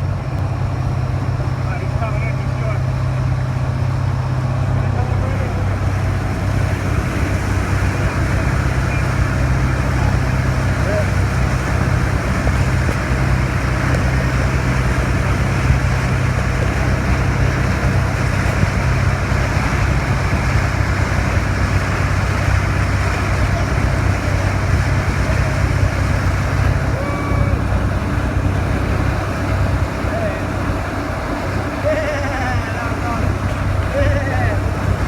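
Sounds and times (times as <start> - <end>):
motorboat engine running: 0.0 - 35.0
rush of wind and water: 0.0 - 35.0.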